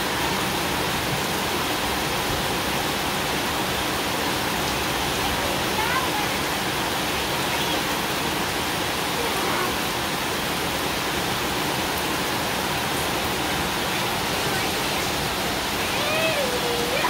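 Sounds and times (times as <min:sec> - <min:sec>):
heavy rain on concrete and plants: 0:00.0 - 0:17.0.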